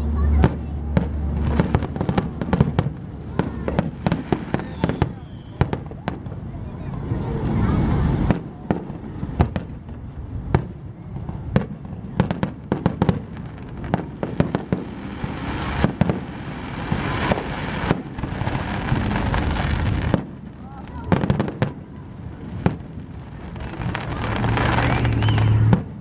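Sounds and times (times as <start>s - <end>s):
fireworks crackling hiss: 0.0s - 26.0s
fireworks bangs and pops: 0.1s - 26.0s.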